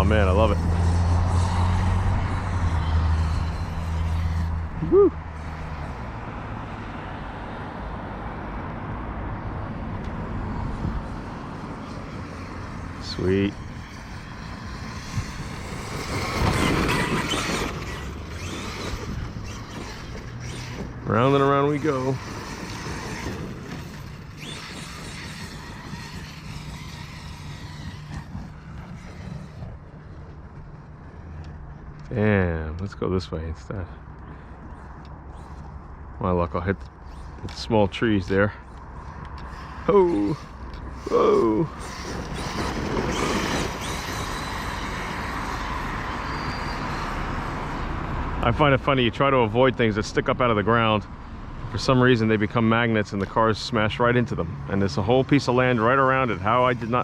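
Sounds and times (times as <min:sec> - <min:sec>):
electric rc truck motor whir: 0:00.0 - 0:07.6, 0:10.0 - 0:31.3, 0:34.2 - 0:36.0, 0:36.8 - 0:37.7, 0:38.6 - 0:48.8, 0:53.0 - 0:57.0
tyres running over ground: 0:00.0 - 0:57.0.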